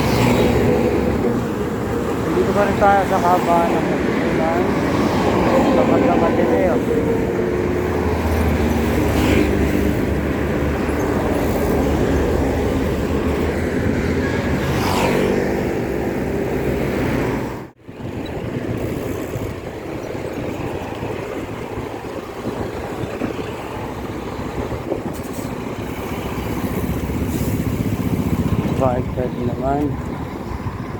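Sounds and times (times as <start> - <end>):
traffic engine rumble: 0.0 - 30.9
vehicles passing: 0.0 - 30.9.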